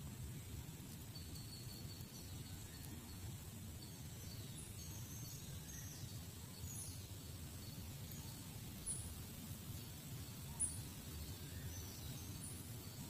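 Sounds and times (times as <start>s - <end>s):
faint high chirps: 0.2s - 13.0s.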